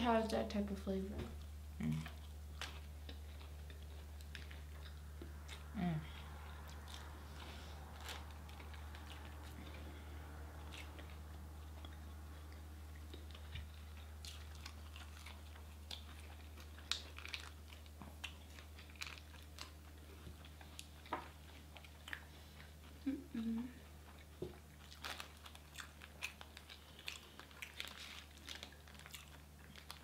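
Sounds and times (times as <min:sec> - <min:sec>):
low hum: 0:00.0 - 0:24.2
chewing and biting: 0:02.0 - 0:23.1, 0:23.8 - 0:30.0.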